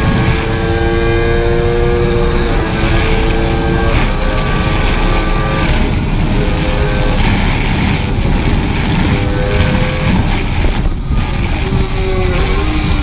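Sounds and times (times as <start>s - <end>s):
motorcycle engine at speed: 0.0s - 13.0s
wind rush: 0.0s - 13.0s.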